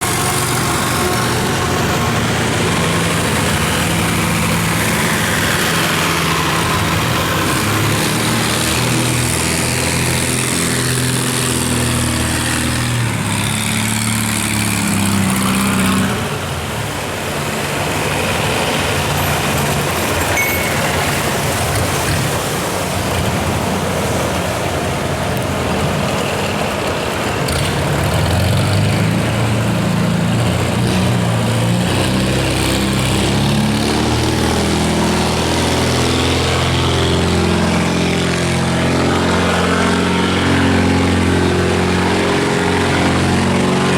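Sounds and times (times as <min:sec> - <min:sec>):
boat engine droning: 0:00.0 - 0:43.9.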